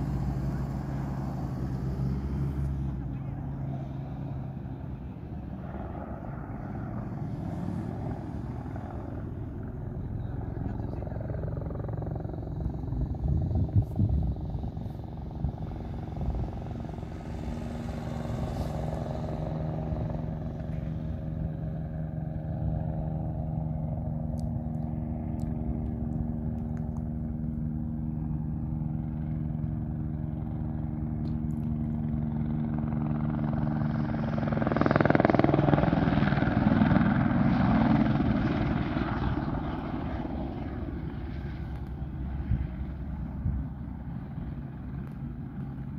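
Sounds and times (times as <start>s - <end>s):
helicopter flying: 0.0s - 45.9s.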